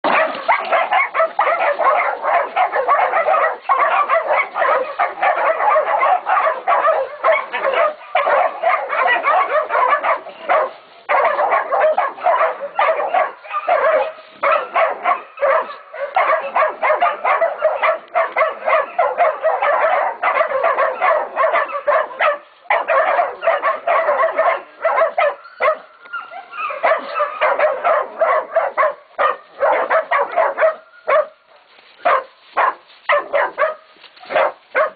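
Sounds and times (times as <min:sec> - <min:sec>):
puppies barking and yipping: 0:00.0 - 0:34.9.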